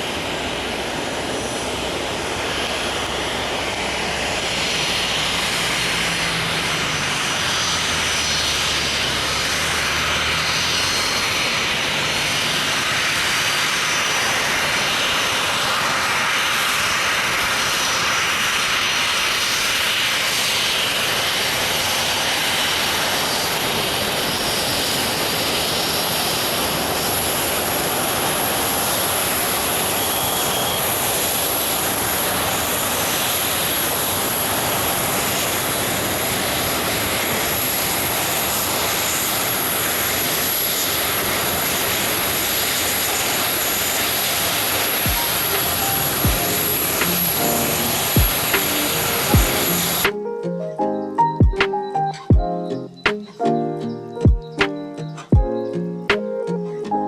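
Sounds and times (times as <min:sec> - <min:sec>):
high engine whine: 0:00.0 - 0:57.0
jet engines running at low power: 0:00.0 - 0:57.0.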